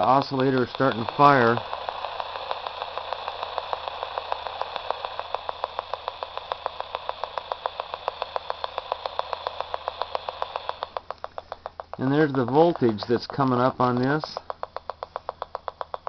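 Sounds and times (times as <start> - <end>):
radio static hiss: 0.0 - 16.0
rapid evenly spaced clicks: 0.0 - 16.0.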